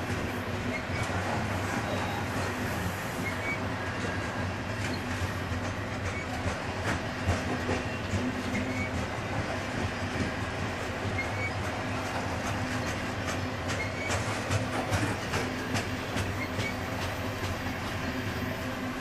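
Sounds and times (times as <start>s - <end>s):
clicks and knocks of train: 0.0s - 19.0s
train wheels rumbling on rail: 0.0s - 19.0s.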